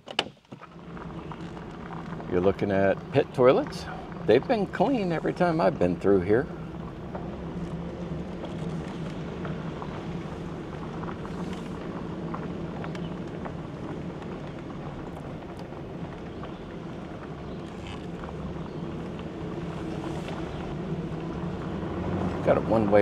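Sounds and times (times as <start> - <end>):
gravel clicking under tyres: 0.0 - 23.0
truck engine and road drone: 0.0 - 23.0.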